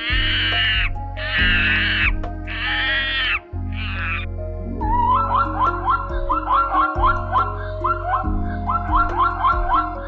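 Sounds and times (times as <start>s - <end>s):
background music: 0.0s - 10.0s
rough animal calls: 0.0s - 10.0s.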